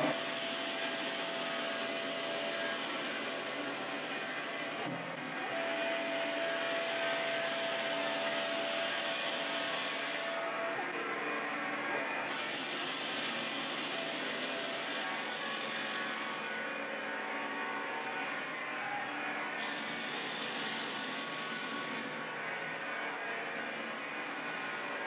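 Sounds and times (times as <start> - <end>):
thin steady whine: 0.0 - 25.0.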